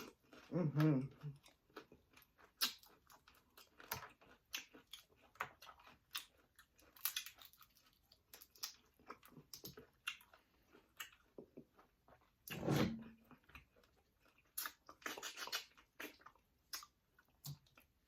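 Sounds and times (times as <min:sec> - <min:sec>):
person chewing with wet smacking: 0:00.0 - 0:12.5, 0:13.1 - 0:18.0.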